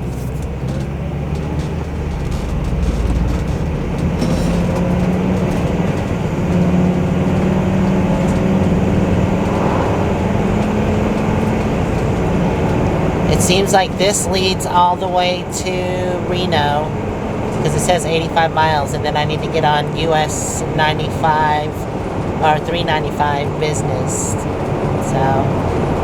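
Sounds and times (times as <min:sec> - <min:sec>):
motorhome engine hum: 0:00.0 - 0:26.0
road noise: 0:00.0 - 0:26.0.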